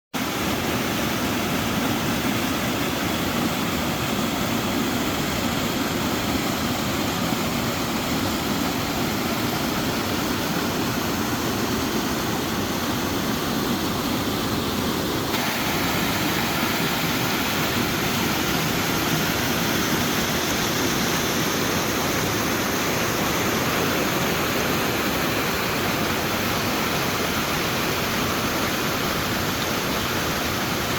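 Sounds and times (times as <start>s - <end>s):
creek rushing over rocks: 0.2s - 30.9s.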